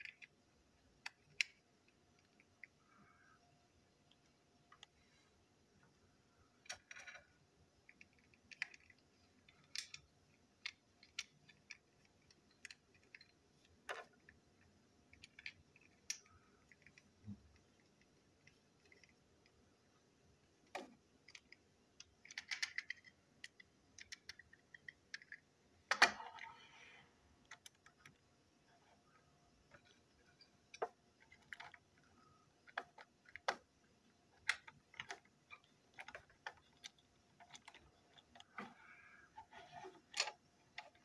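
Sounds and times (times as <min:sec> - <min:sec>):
small plastic parts clicking: 0:00.0 - 0:03.4, 0:04.1 - 0:05.1, 0:06.4 - 0:26.8, 0:27.4 - 0:41.0.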